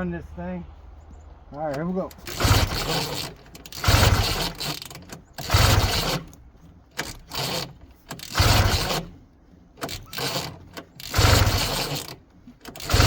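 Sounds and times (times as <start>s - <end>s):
snowmobile recoil starter pulls: 1.6s - 9.2s, 9.8s - 13.0s
engine turning over rumbling: 1.6s - 13.0s.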